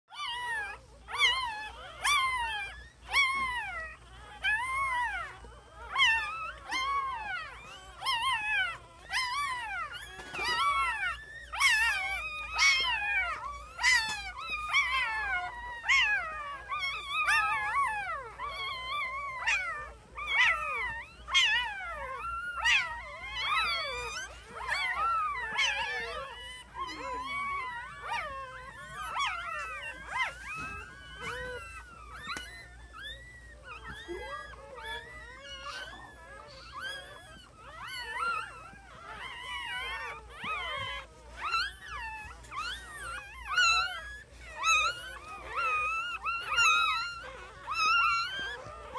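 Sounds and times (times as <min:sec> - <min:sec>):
puppies squealing: 0:00.1 - 0:48.9.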